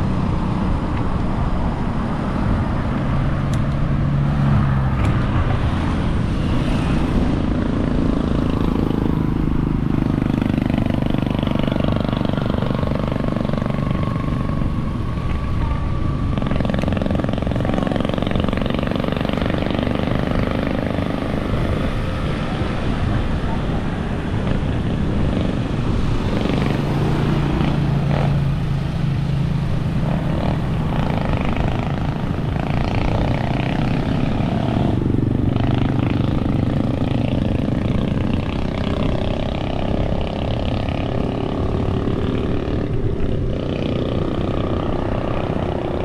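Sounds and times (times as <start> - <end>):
vehicle engine running: 0.0 - 46.0
wind and road noise: 0.0 - 46.0.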